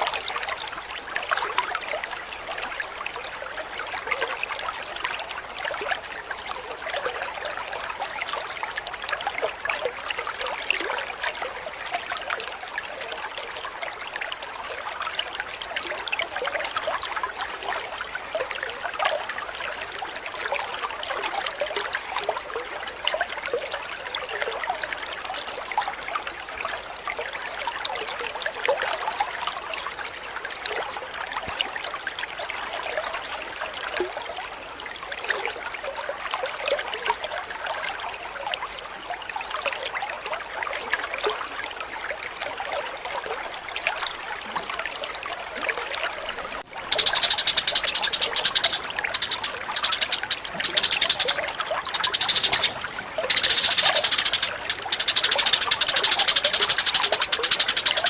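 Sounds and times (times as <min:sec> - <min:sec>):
water trickling and babbling: 0:00.0 - 0:58.0.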